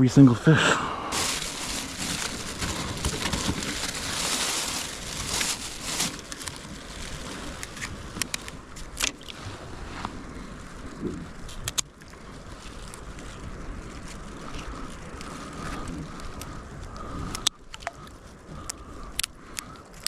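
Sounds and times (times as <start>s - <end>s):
water around a kayak: 0.0s - 20.0s
wind: 0.0s - 20.0s.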